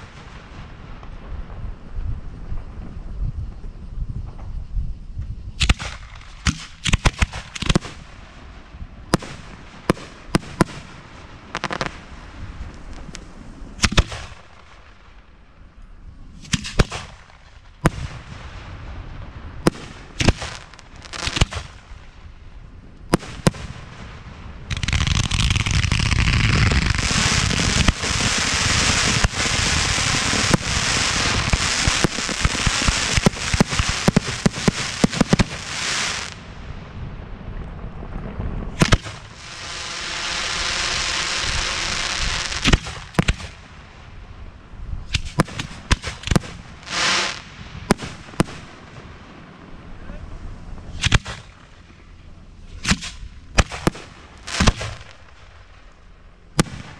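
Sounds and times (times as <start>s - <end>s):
fireworks crackling barrage: 0.0s - 56.9s
fireworks bangs: 5.6s - 15.5s, 16.4s - 22.3s, 23.1s - 56.9s.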